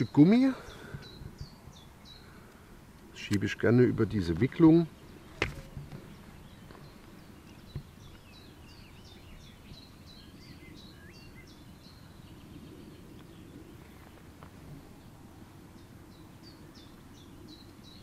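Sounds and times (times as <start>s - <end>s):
bird chirping: 0.0s - 2.6s, 4.2s - 18.0s.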